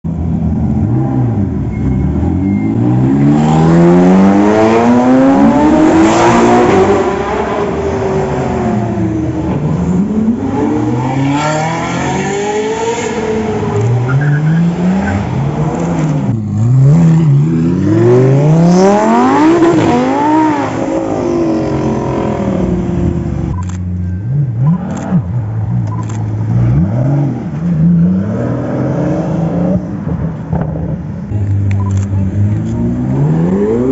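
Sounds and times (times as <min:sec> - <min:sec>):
supercar engines revving: 0:00.1 - 0:33.9.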